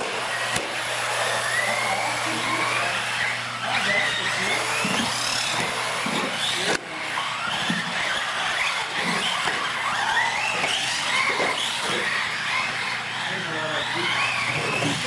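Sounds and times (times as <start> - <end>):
electric motors whining: 0.0 - 15.0
tyres squealing: 1.2 - 15.0.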